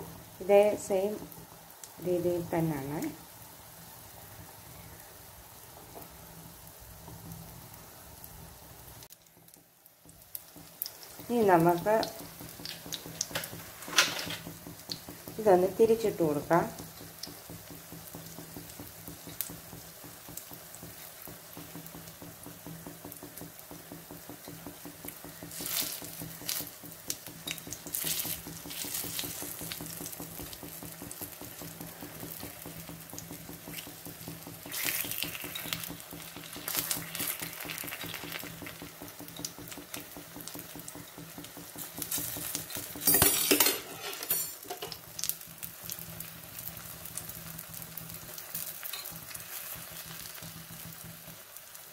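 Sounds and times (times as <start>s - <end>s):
food sizzling in oil: 0.0s - 51.9s.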